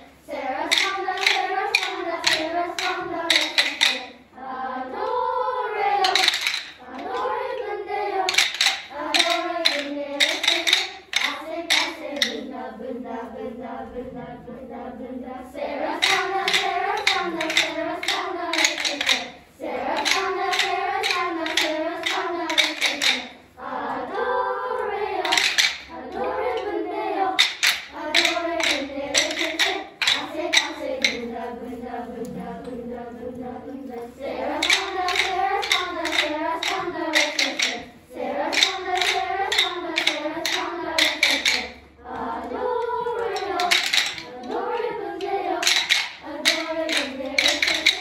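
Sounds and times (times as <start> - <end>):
wooden rhythm sticks tapping: 0.0 - 12.6, 15.5 - 24.2, 24.8 - 48.0
children singing in unison: 0.0 - 48.0.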